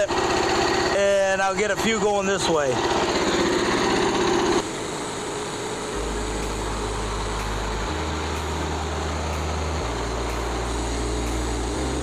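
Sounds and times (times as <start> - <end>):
sawmill gasoline engine running: 0.0 - 12.0.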